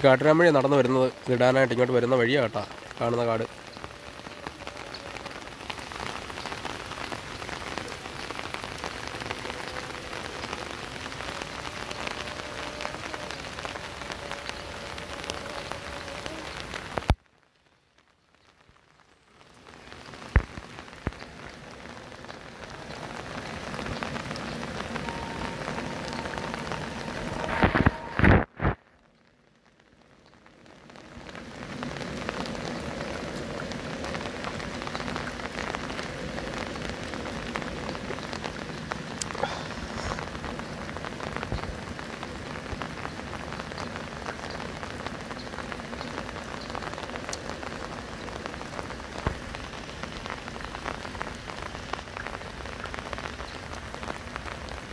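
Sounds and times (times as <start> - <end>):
rain falling on water: 0.0 - 54.9.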